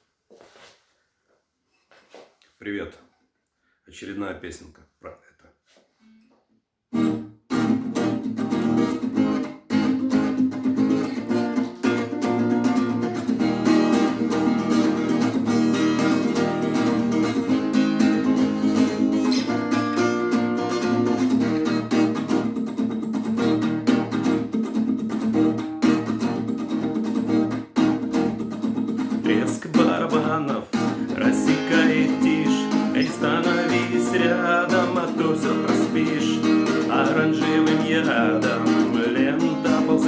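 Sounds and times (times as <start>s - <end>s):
acoustic guitar strumming: 6.0s - 40.0s.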